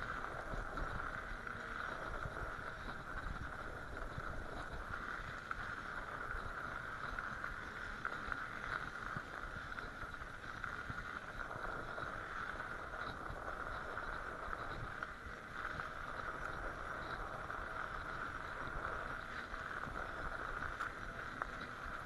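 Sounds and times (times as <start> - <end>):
bicycle tyres rolling on snow: 0.0 - 22.0
low rumble of bike shaking: 0.0 - 22.0.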